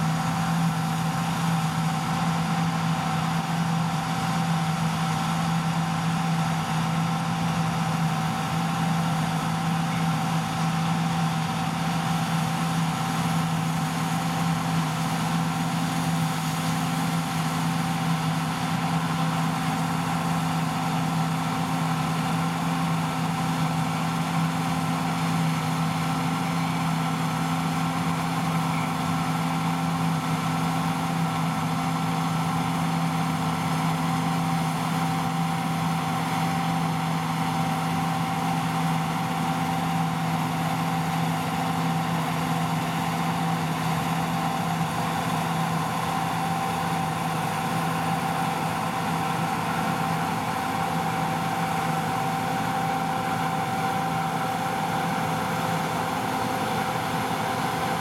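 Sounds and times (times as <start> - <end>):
combine harvester engine drone: 0.0 - 58.0
steady whine: 0.0 - 58.0.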